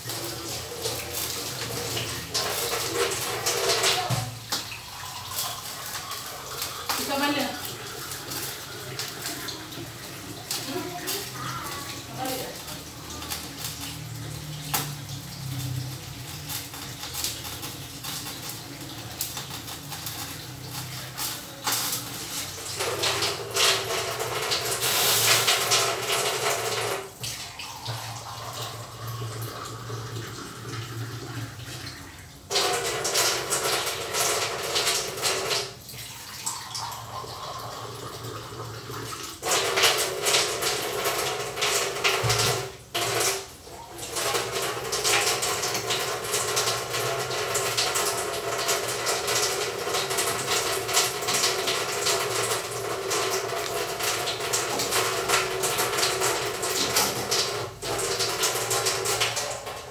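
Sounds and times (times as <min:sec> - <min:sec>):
tap running into sink: 0:00.0 - 0:05.9, 0:06.8 - 0:15.8, 0:16.7 - 0:31.5, 0:39.0 - 0:59.9.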